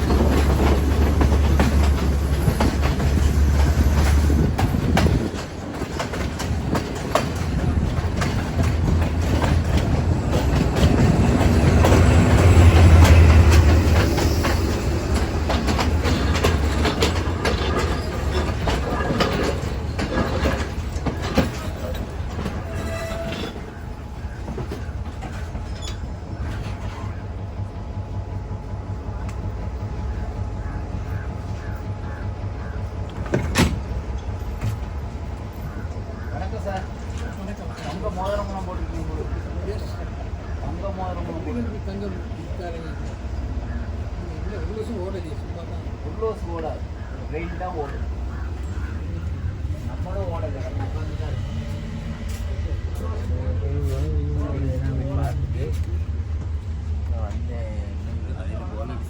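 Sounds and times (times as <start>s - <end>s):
wheels clattering over rail joints: 0.0s - 27.9s, 29.2s - 57.6s
train rumble: 0.0s - 59.0s.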